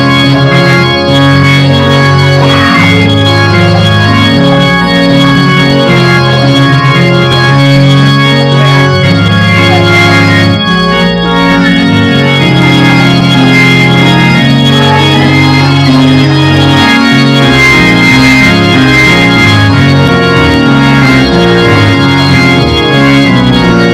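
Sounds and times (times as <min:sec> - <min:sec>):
organ playing sustained chords: 0:00.0 - 0:23.9.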